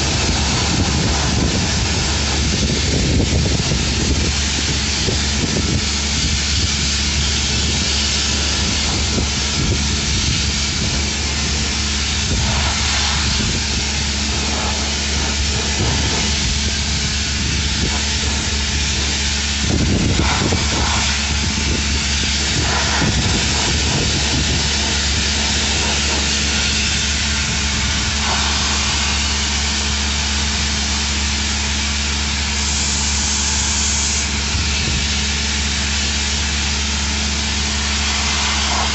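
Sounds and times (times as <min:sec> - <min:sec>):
machinery humming: 0:00.0 - 0:38.9.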